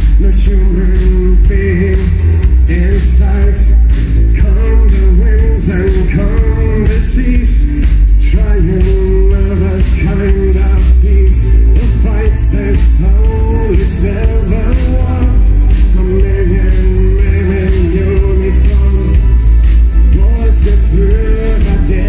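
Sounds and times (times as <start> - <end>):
loud live band music: 0.0 - 22.0.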